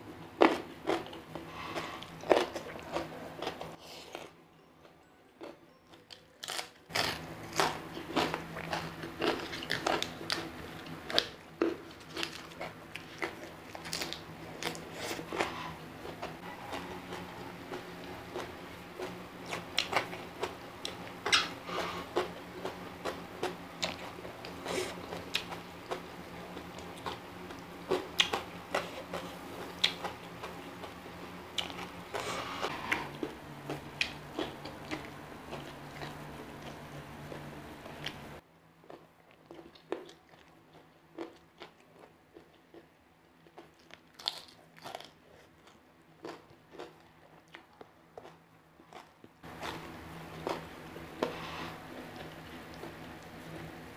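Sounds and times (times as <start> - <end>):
low background hum: 0.0 - 53.9
chewing and crunching food: 0.4 - 4.4, 5.4 - 53.9.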